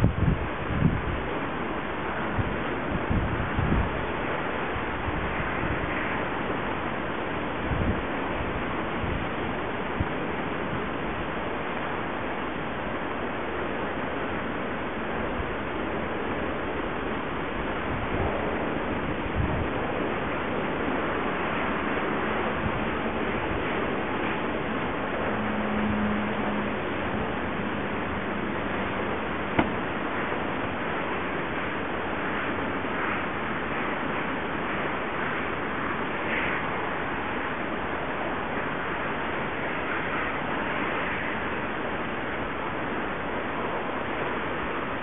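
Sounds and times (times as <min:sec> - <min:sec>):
low buffeting wind gusts: 0:00.0 - 0:45.0
wind noise on microphone: 0:00.0 - 0:45.0.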